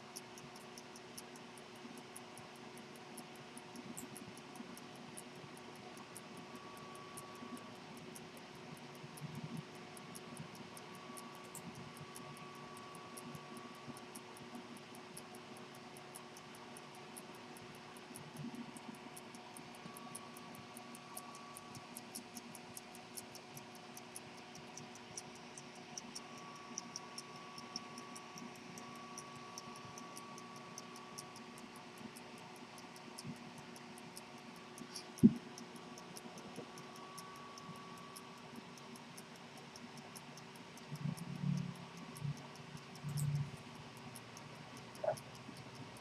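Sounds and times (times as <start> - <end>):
pocket watch ticking: 0.0 - 46.0.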